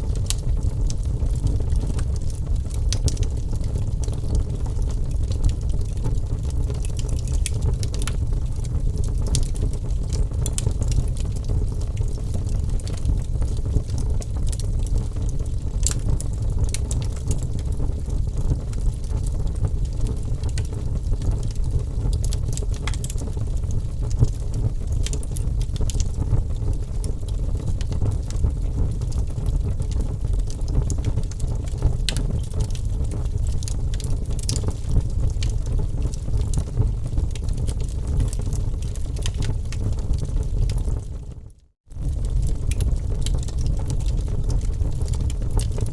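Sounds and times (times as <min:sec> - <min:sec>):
fire crackles and pops: 0:00.0 - 0:45.9
wood fire rumbling: 0:00.0 - 0:45.9.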